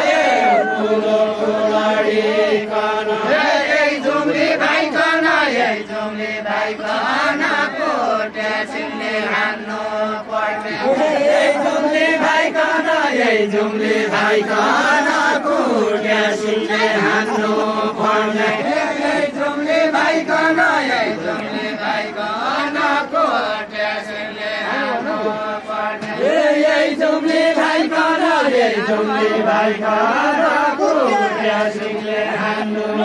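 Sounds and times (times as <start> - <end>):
voices singing a slow chant: 0.0 - 33.0.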